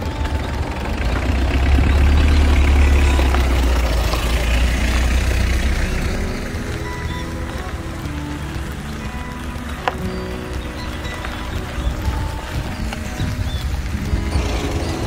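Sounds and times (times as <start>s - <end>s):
faint music: 0.0s - 15.0s
vehicle engine rumbling: 0.0s - 15.0s.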